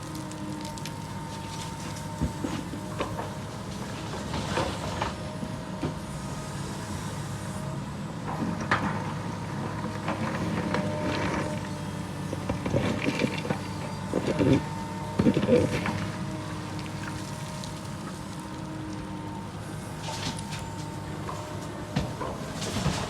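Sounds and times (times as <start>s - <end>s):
heavy machinery engine running: 0.0s - 23.0s.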